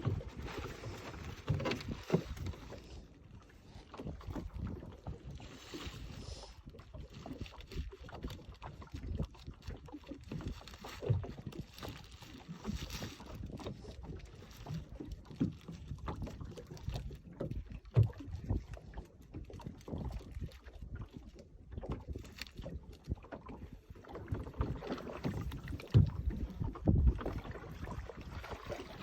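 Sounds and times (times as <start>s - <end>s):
water lapping against boat hull: 0.0s - 29.0s.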